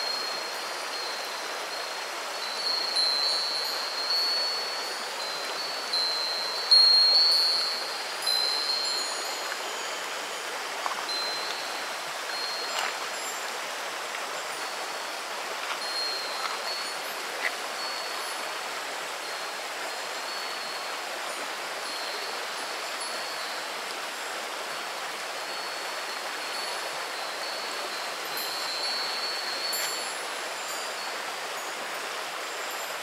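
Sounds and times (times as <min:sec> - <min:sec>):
faint wind chime ringing: 0:00.0 - 0:33.0
stream babbling over pebbles: 0:00.0 - 0:33.0.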